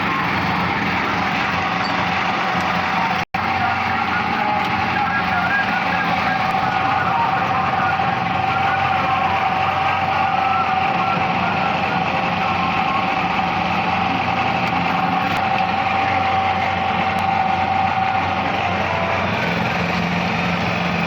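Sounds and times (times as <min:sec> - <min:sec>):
small motorcycle engine running: 0:00.0 - 0:21.0
steady whine: 0:00.0 - 0:21.0.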